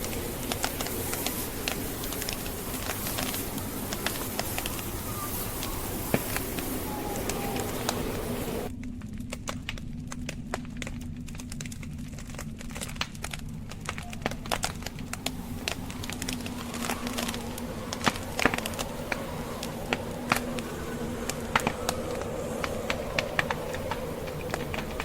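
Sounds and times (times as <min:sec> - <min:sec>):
snowstorm wind: 0:00.0 - 0:09.3, 0:10.3 - 0:25.0
logs crackling and popping: 0:00.0 - 0:25.0.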